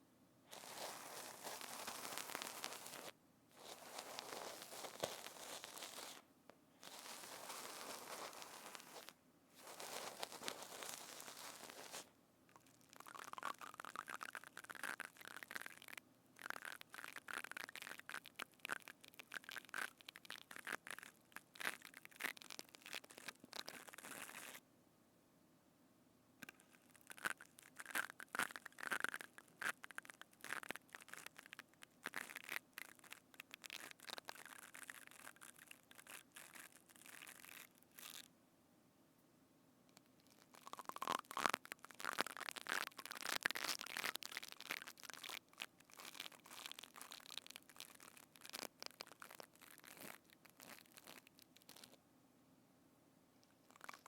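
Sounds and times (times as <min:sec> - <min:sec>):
crackling and squishing handling: 0:00.5 - 0:24.6, 0:26.4 - 0:38.3, 0:39.9 - 0:52.0, 0:53.4 - 0:54.0.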